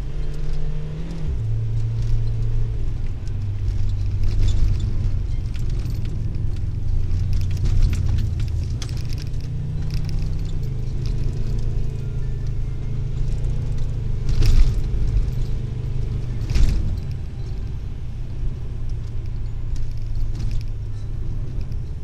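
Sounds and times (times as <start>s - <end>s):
engine and tyres on gravel: 0.0s - 22.0s.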